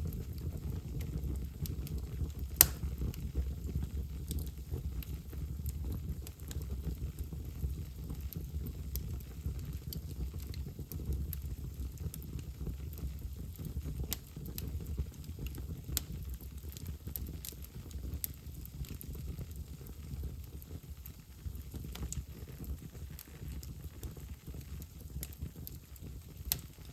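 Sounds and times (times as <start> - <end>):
fire crackling and popping: 0.0 - 26.9
low rumble of flames: 0.0 - 26.9.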